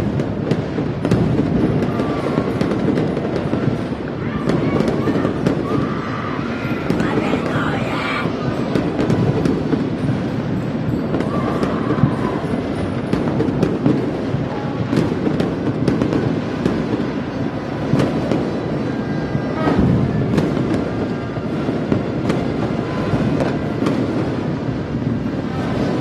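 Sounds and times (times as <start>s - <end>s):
fireworks rumbling and crackling: 0.0s - 26.0s
sharp firecracker bangs: 0.0s - 26.0s.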